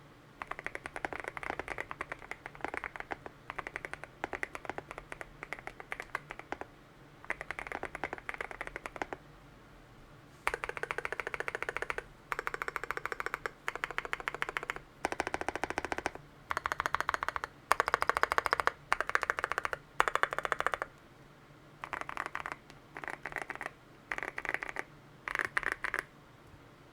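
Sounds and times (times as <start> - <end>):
mechanical keyboard typing: 0.4 - 9.2, 10.5 - 20.9, 21.8 - 26.1.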